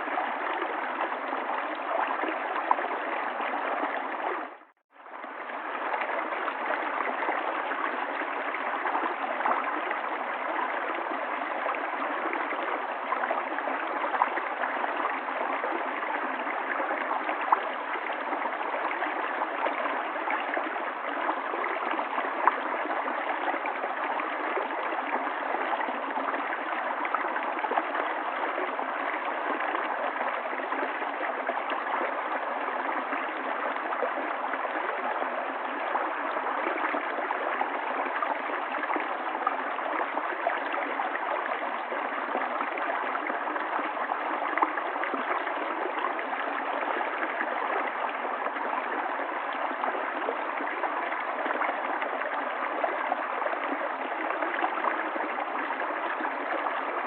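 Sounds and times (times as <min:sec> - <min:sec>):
river water gurgling: 0:00.0 - 0:57.0.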